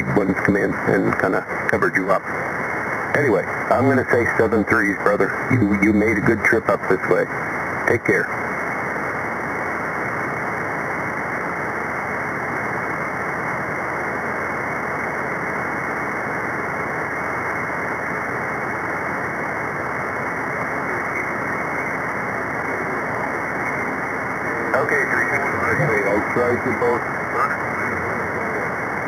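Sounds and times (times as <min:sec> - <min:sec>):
muffled radio static hiss: 0:00.0 - 0:29.0.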